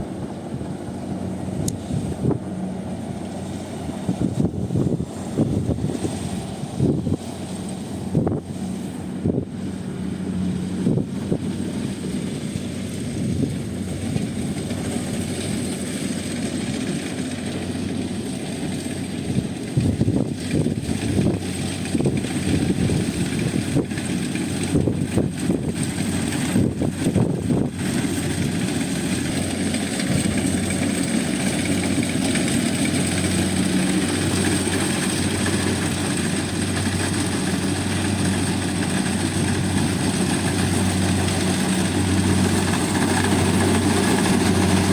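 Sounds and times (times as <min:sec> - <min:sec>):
combine harvester engine running: 0:00.0 - 0:44.9.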